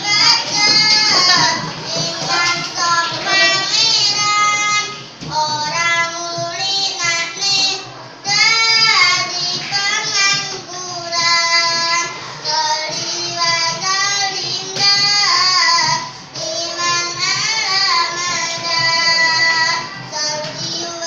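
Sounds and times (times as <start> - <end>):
boy singing: 0.0 - 21.0.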